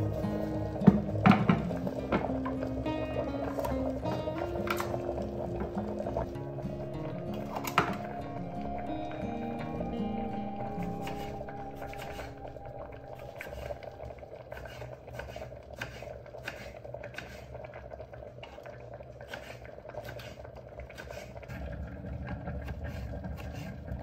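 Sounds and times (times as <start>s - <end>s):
pot boiling: 0.0s - 24.0s.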